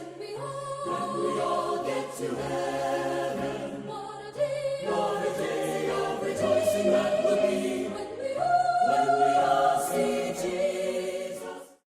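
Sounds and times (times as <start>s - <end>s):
choir singing a hymn: 0.0s - 11.8s.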